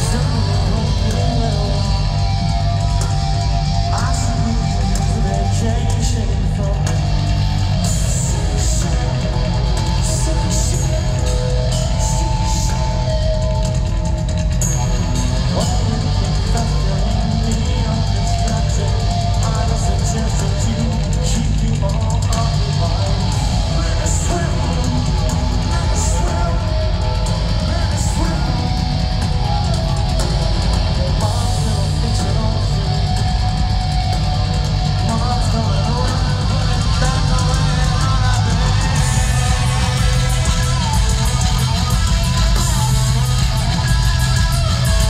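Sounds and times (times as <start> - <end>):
bass guitar: 0.0 - 45.0
drums: 0.0 - 45.0
electric guitar: 0.0 - 45.0.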